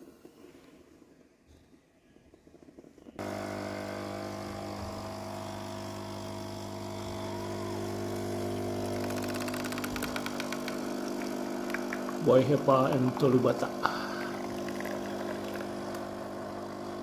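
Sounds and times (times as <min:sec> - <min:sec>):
espresso machine pump humming: 0:02.6 - 0:17.0.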